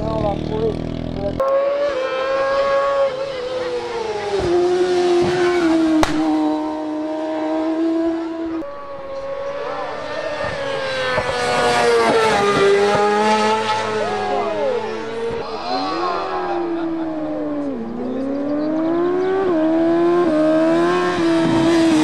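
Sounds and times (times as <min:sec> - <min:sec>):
motorcycle engines revving high: 0:00.0 - 0:22.0.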